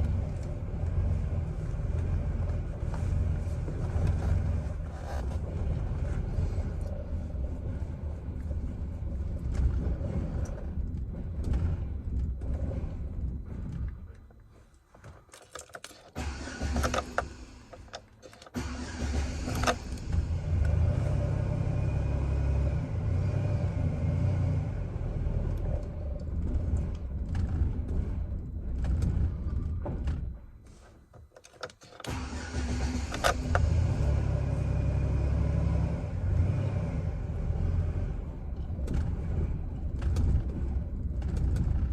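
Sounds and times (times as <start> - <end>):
starter clicks and cranking: 0.0 - 36.0, 38.3 - 41.9.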